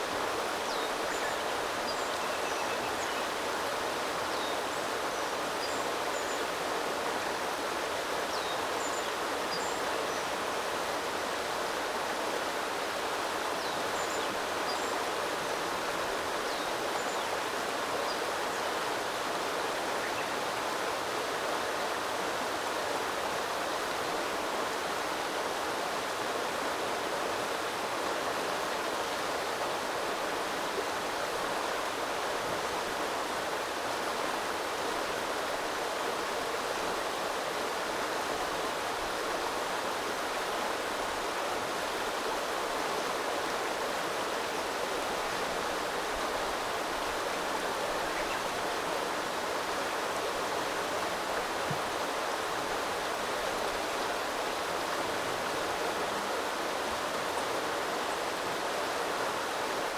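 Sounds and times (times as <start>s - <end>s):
river flowing over stones: 3.3s - 59.9s.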